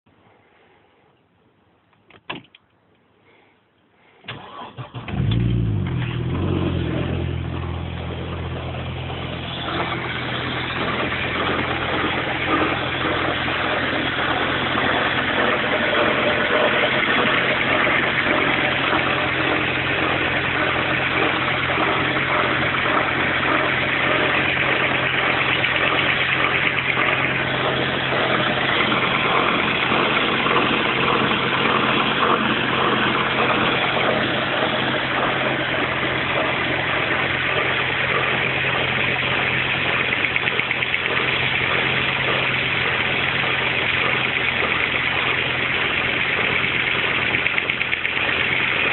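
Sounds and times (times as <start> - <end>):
car engine starting and idling: 4.3 - 48.9.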